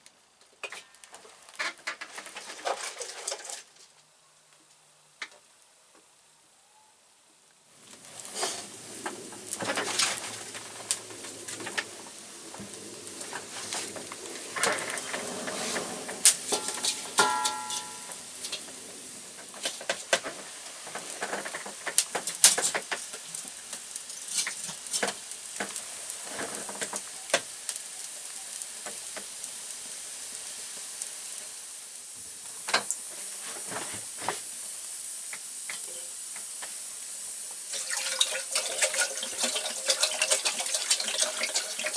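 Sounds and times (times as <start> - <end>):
wood fire crackling and popping: 0.0 - 4.0, 7.7 - 41.9.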